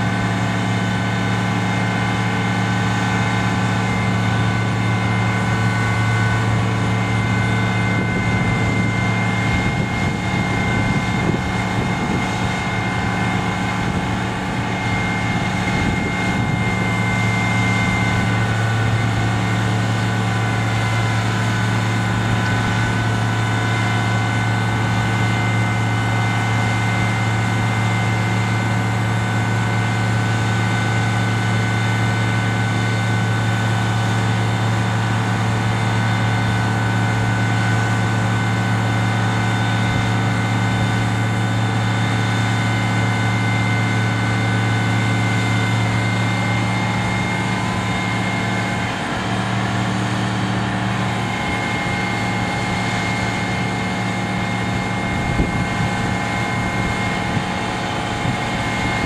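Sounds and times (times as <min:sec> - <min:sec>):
hydraulics high whine: 0:00.0 - 0:59.0
truck engine low drone: 0:00.0 - 0:59.0.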